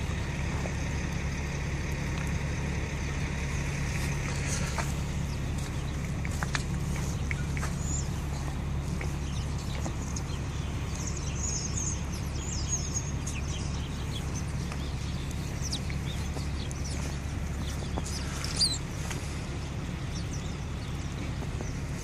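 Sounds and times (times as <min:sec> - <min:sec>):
low outdoor hum: 0:00.0 - 0:22.0
small birds chirping: 0:00.0 - 0:22.0.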